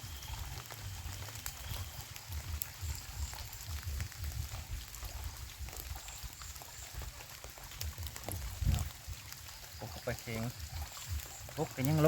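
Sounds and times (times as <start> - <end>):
wind rumble on microphone: 0.0 - 11.5
light rain: 0.0 - 12.0.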